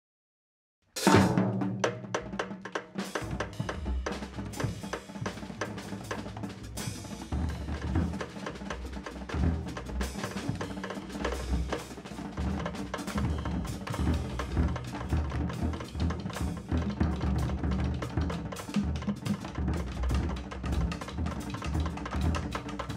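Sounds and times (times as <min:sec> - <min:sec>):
drums and cymbals: 0:00.9 - 0:22.9
large band playing: 0:01.0 - 0:02.2, 0:03.0 - 0:22.9.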